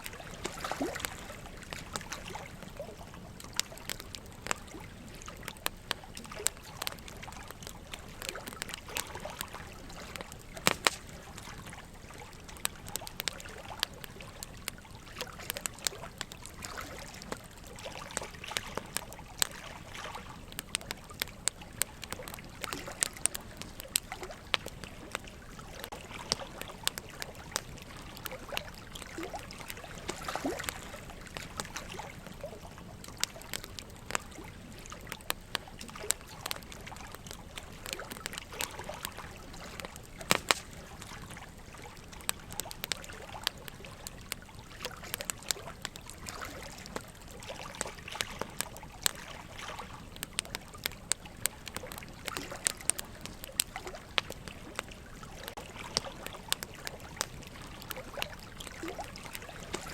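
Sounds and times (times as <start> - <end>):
burning logs crackling: 0.0 - 59.9
running water trickling: 0.0 - 59.9.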